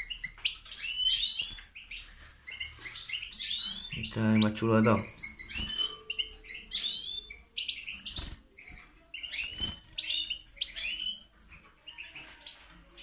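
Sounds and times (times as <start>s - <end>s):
finches twittering: 0.0s - 13.0s.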